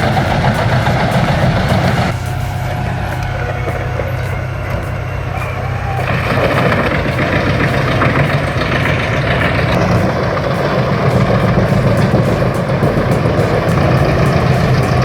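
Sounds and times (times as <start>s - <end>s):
wood chipper engine humming: 0.0s - 15.0s.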